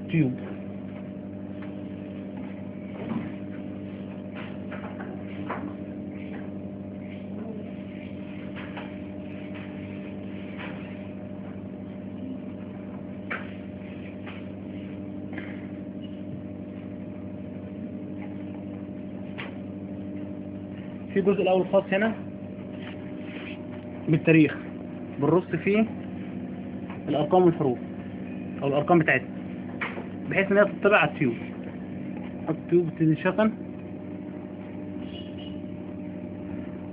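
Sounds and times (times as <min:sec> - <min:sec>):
sealing machine electrical hum: 0:00.0 - 0:36.9.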